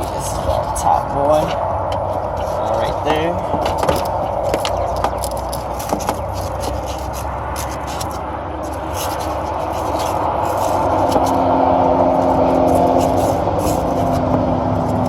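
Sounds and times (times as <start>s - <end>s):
copper tubing scraping and clicking: 0.0s - 11.5s, 12.1s - 15.0s
engine hum: 0.0s - 15.0s
vehicle noise: 0.0s - 15.0s.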